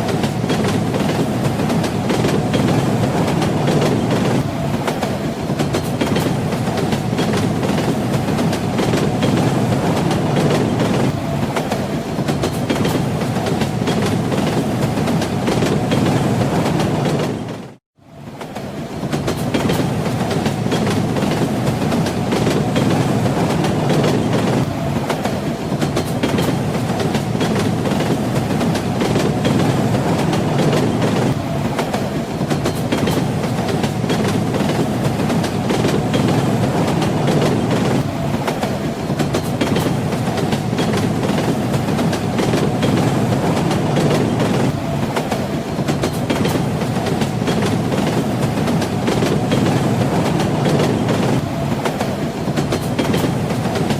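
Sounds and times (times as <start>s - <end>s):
train wheels clattering on rails: 0.0s - 53.9s.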